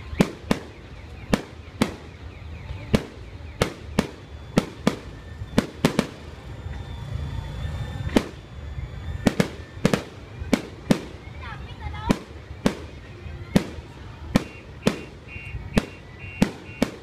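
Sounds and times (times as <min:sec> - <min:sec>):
fireworks bursting bangs: 0:00.0 - 0:06.5, 0:07.8 - 0:17.0.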